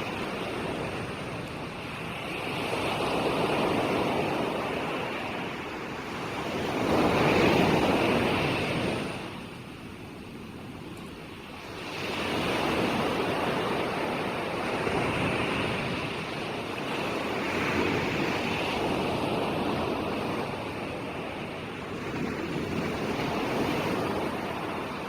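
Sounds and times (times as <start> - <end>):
ocean waves breaking: 0.0 - 25.0.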